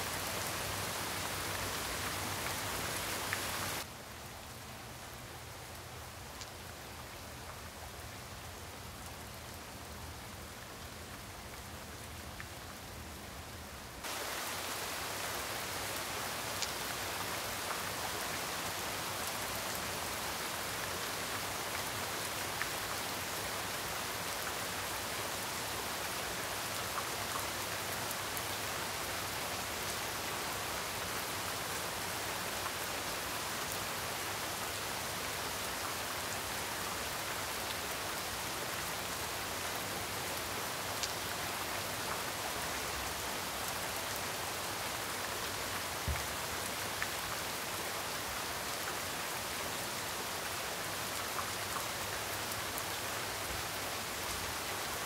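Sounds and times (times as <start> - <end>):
heavy rain falling: 0.0 - 3.9, 14.0 - 55.0.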